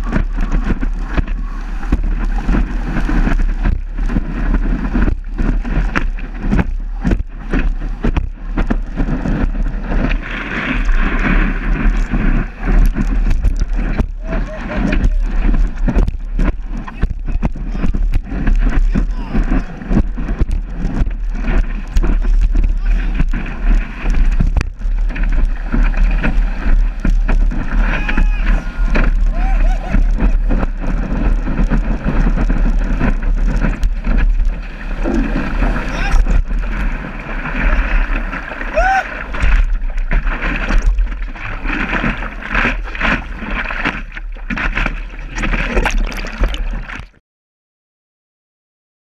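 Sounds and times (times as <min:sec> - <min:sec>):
whitewater rushing and splashing: 0:00.0 - 0:47.1
wind buffeting microphone: 0:00.0 - 0:47.2.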